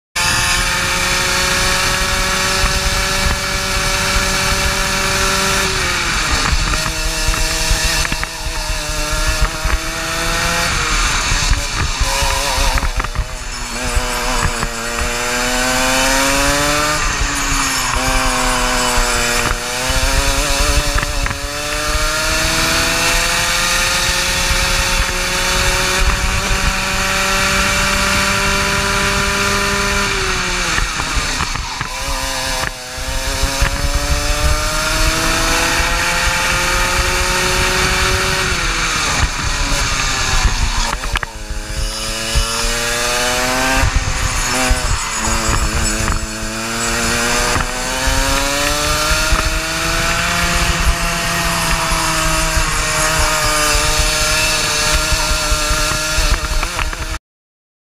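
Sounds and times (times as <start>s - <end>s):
racing kart engine at full throttle: 0.0s - 57.2s.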